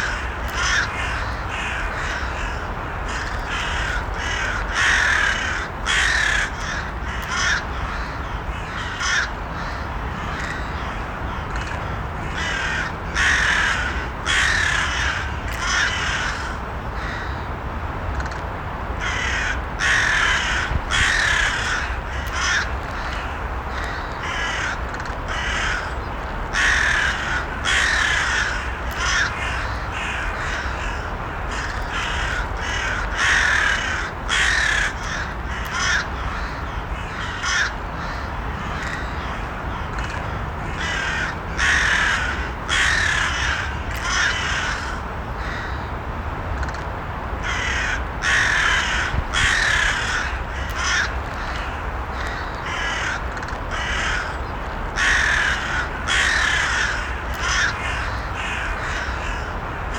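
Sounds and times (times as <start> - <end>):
crows cawing: 0.0 - 17.5, 19.0 - 45.9, 47.4 - 59.9
low background noise: 0.0 - 59.9.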